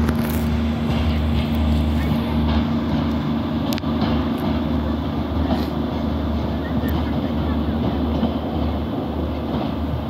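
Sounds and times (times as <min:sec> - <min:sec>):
diesel train engine drone: 0:00.0 - 0:10.0.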